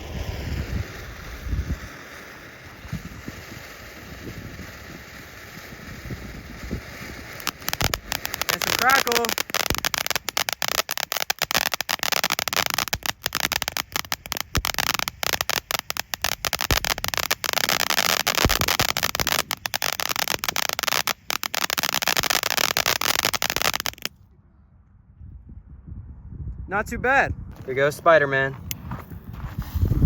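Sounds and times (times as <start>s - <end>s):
firework crackling and hissing: 0.0s - 24.1s, 28.6s - 30.0s.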